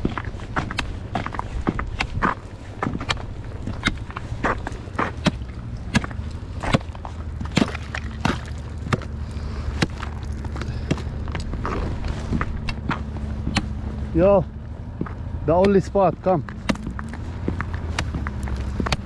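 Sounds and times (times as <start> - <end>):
footsteps on ice: 0.0 - 19.0
steady low rumble: 0.0 - 19.0.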